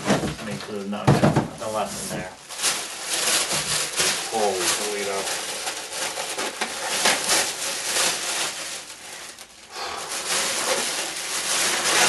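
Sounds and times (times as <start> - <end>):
plastic bag crinkling: 1.6 - 12.0.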